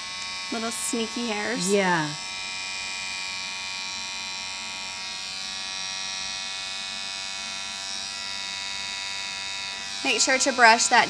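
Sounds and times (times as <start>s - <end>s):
electric hair trimmer buzzing: 0.0s - 11.0s.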